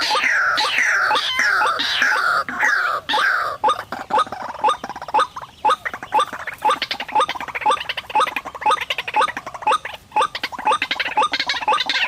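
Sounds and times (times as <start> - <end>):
bird calling rising notes: 0.0 - 12.0
bird chattering: 0.0 - 12.0.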